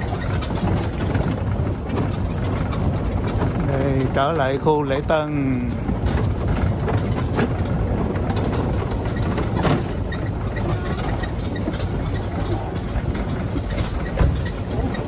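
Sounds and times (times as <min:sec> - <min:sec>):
cart rolling over brick paving: 0:00.0 - 0:15.0
knocks and rattles: 0:00.0 - 0:15.0.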